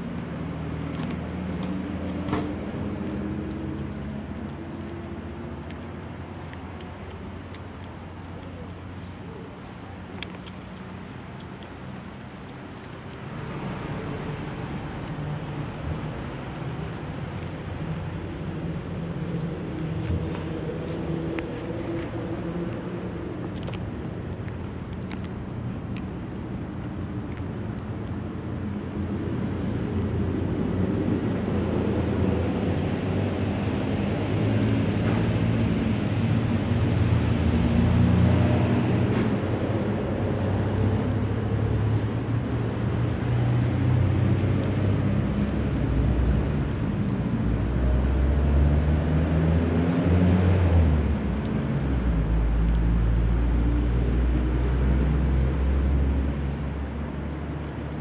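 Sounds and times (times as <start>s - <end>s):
low outdoor rumble: 0.0s - 58.0s.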